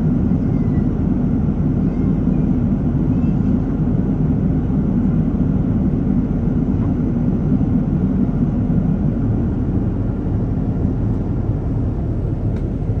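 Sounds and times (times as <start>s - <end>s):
airliner cabin engine and airflow noise: 0.0s - 13.0s.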